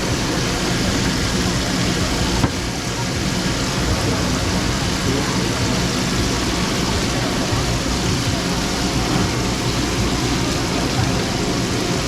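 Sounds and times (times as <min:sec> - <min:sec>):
cooking hiss: 0:00.0 - 0:12.0
market chatter: 0:00.0 - 0:12.0.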